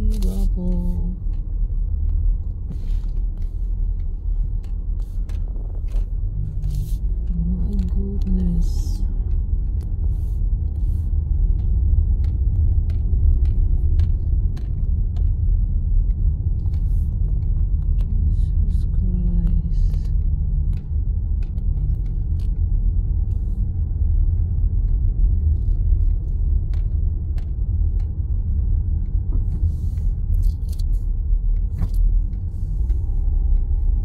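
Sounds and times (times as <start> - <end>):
car cabin road rumble: 0.0 - 34.0.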